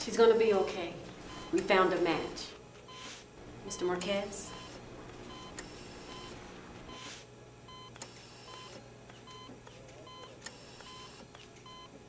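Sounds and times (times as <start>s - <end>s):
patient monitor beeping: 1.0s - 12.0s.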